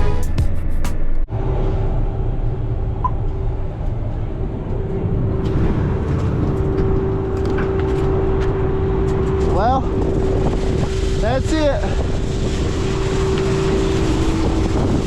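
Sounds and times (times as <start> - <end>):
farm machinery engine running: 1.3 - 15.0.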